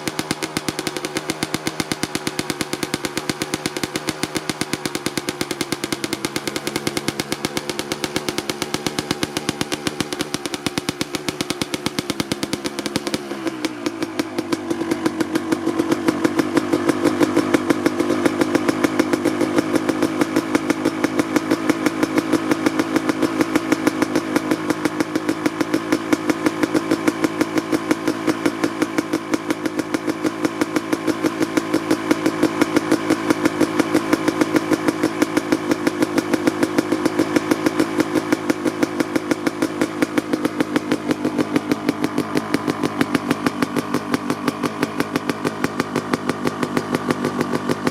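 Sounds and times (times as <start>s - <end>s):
two-stroke engine idling: 0.0s - 47.9s.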